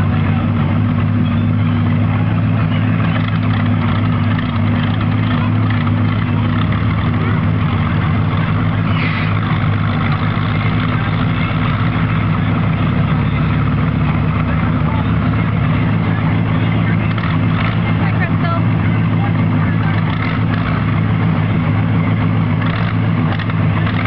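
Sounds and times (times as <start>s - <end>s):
tractor engine running loud: 0.0s - 24.0s.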